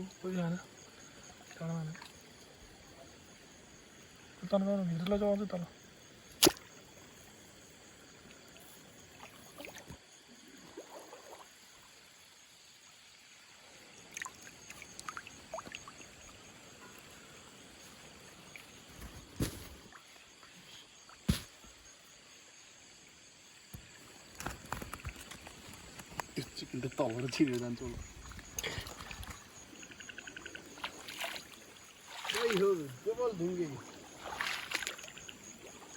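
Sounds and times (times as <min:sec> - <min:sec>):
water lapping and trickling: 0:00.0 - 0:22.2, 0:22.9 - 0:35.9.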